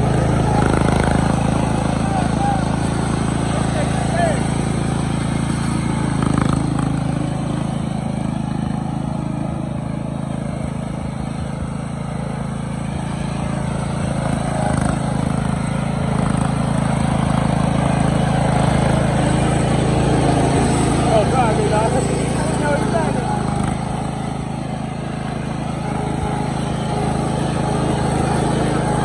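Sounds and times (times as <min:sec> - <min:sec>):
riding mower engine running: 0:00.0 - 0:29.0.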